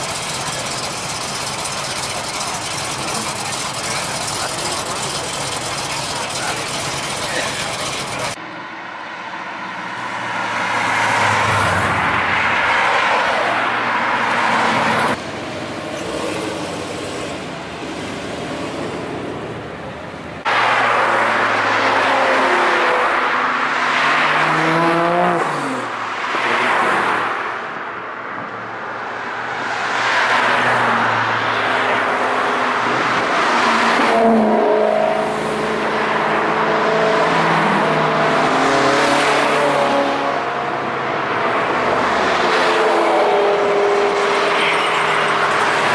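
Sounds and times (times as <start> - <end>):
cars driving past: 0.0 - 45.9
engines accelerating: 0.0 - 45.9.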